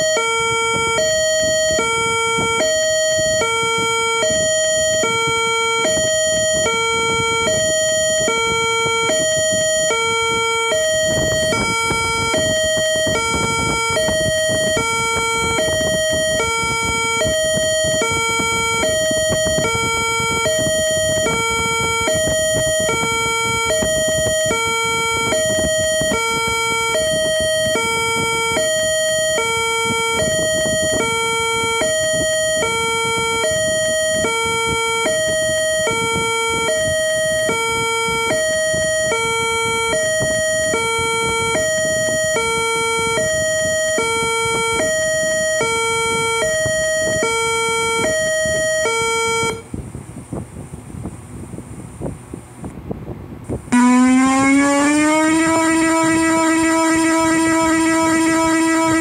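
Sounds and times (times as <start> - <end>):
hi-lo warning siren: 0.0 - 49.8, 53.5 - 59.0.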